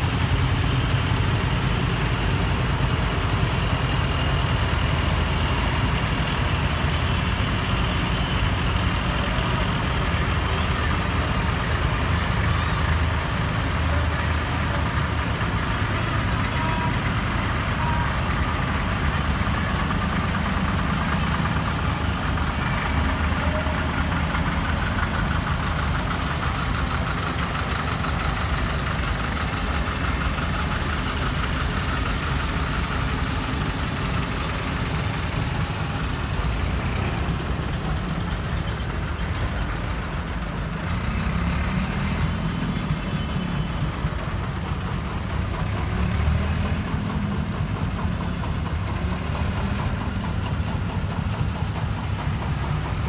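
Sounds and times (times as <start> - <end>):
tractor engines running: 0.0 - 53.0.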